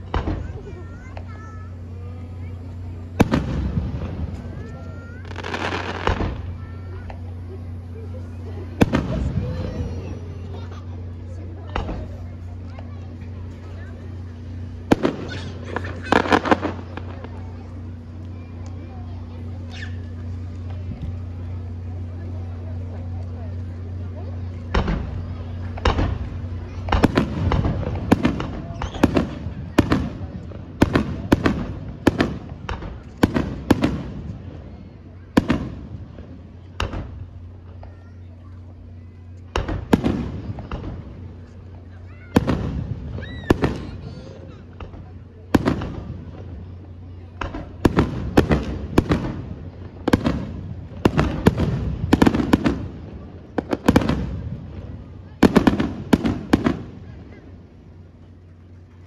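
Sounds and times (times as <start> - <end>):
firework bangs: 0.0 - 59.0
low rumbling echo: 0.0 - 59.0.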